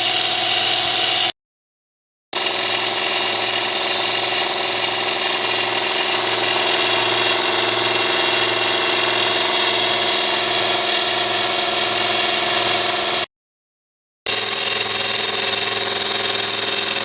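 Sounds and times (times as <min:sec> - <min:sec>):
belt sander motor whining: 0:00.0 - 0:01.3, 0:02.4 - 0:13.3, 0:14.3 - 0:17.0.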